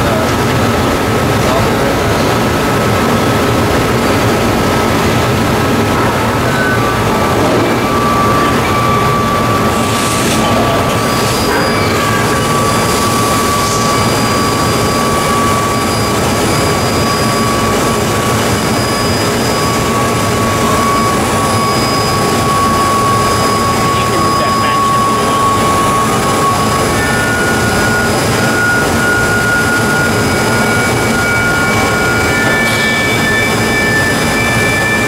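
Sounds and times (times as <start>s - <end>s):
high whine: 0.0s - 35.0s
lathe machine hum: 0.0s - 35.0s.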